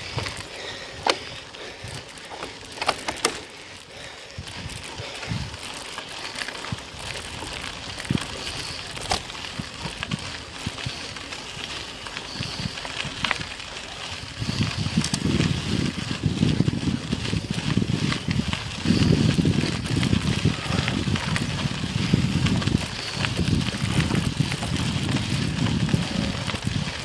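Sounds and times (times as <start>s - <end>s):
bicycle riding on rough ground: 0.0s - 27.0s.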